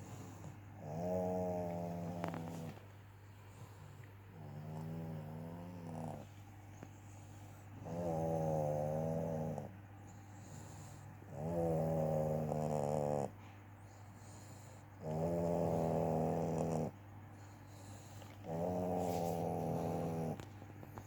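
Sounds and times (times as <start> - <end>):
cat snoring: 0.0 - 2.8, 3.6 - 6.3, 7.8 - 9.7, 10.3 - 20.4.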